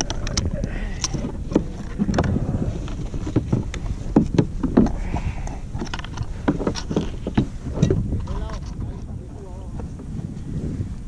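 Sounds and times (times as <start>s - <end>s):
water splashing against kayak hull: 0.0s - 11.0s
wind rumbling on microphone: 0.0s - 11.0s.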